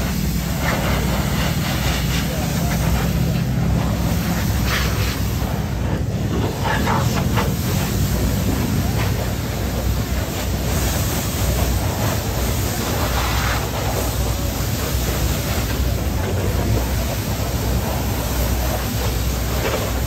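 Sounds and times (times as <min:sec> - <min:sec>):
constant low rumble: 0:00.0 - 0:20.0
pressure washer water hissing: 0:00.0 - 0:20.0.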